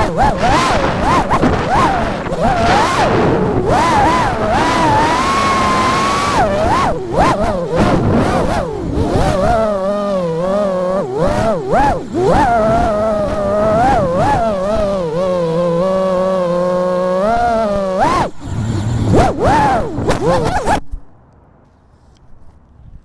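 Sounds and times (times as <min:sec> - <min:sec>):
quadcopter motors whining: 0:00.0 - 0:20.9.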